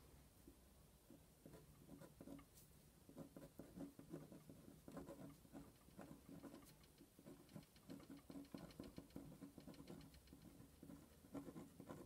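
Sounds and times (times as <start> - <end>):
pen scratching on paper: 1.4 - 12.0.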